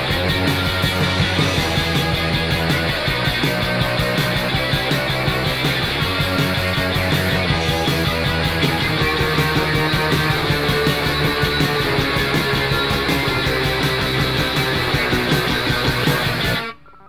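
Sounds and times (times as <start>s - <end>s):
drums playing steady beat: 0.0s - 16.7s
bass guitar: 0.0s - 17.0s
electric guitars: 0.0s - 17.0s.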